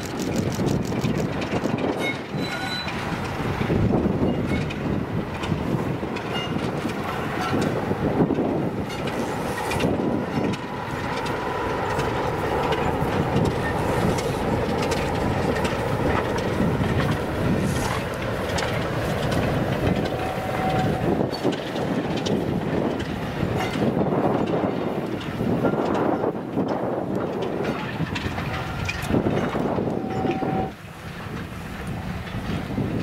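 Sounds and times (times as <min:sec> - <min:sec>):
diesel locomotive engine: 0:00.0 - 0:33.0
wheels clicking on rails: 0:00.0 - 0:33.0.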